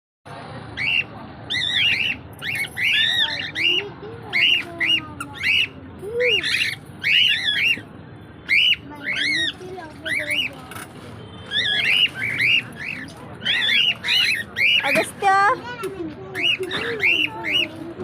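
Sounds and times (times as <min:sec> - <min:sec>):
pet birds squawking: 0:00.8 - 0:18.0.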